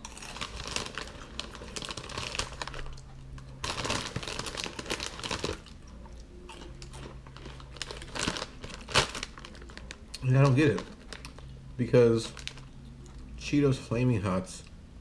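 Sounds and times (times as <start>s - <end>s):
snack bag rustling: 0.0s - 13.2s.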